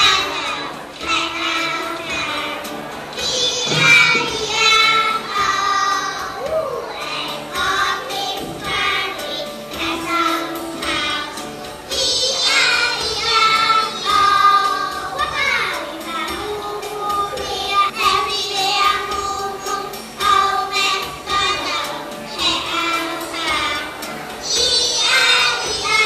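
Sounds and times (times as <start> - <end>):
children singing: 0.0 - 26.0
music: 0.0 - 26.0.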